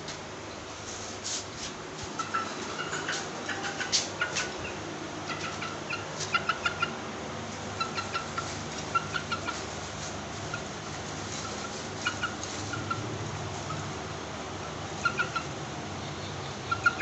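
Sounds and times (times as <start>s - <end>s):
chickens clucking: 2.0s - 7.0s, 7.6s - 14.0s, 14.6s - 17.0s.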